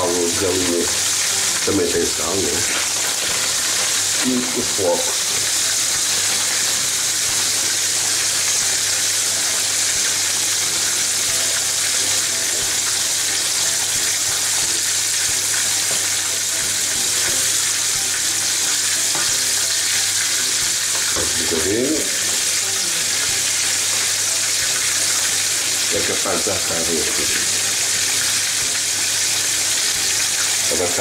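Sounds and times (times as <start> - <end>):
soup boiling and bubbling: 0.0 - 31.0.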